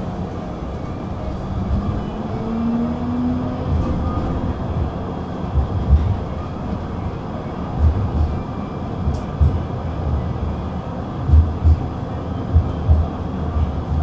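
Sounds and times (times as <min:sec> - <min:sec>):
tram rumbling on track: 0:00.0 - 0:14.0.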